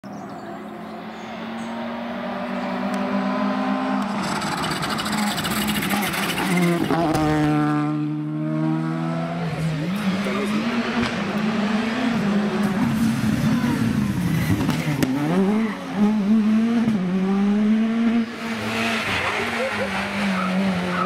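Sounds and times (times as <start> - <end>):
rally car engine at full throttle: 0.0 - 21.0.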